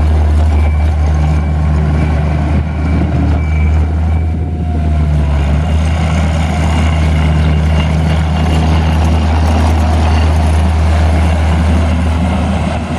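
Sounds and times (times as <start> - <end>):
diesel engine running steadily: 0.0 - 12.9.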